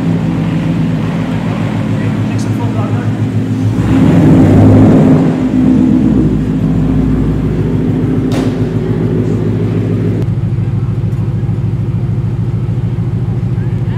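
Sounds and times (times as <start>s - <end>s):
car engine running: 0.0s - 13.9s.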